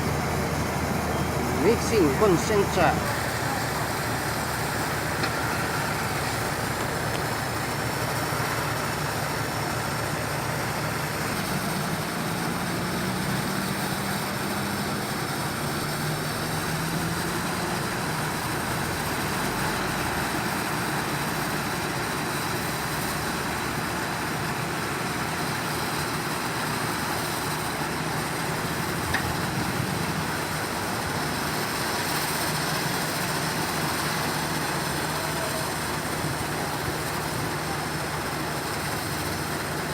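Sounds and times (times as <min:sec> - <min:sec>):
diesel construction machinery running: 0:00.0 - 0:39.9.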